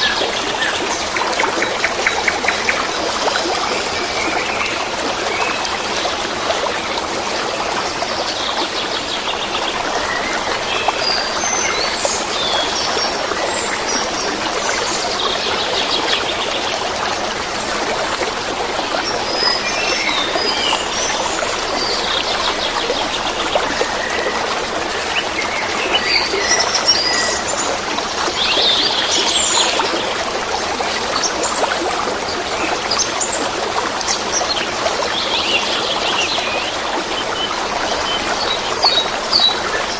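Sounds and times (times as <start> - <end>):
babbling flowing water: 0.0 - 39.9.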